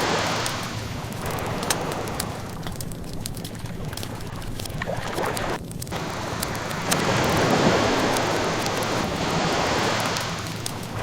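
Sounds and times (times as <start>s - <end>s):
ocean waves washing: 0.0s - 11.0s
wood fire crackling: 0.0s - 11.0s.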